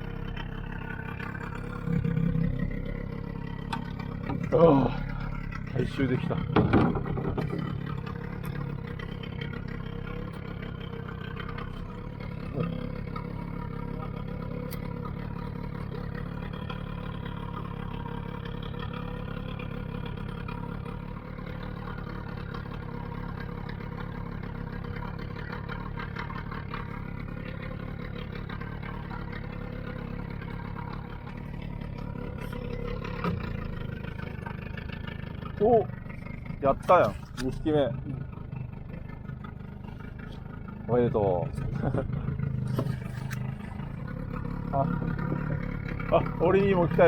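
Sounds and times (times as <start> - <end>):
small outboard motor running: 0.0 - 47.0.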